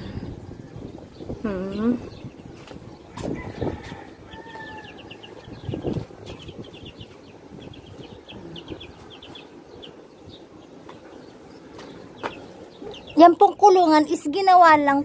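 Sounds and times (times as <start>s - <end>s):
chicks peeping: 0.0s - 13.8s.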